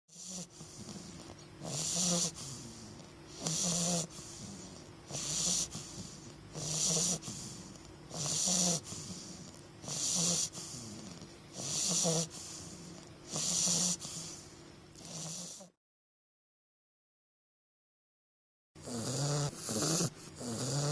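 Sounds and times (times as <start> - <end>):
puppy snoring: 0.1 - 15.8, 18.8 - 20.9.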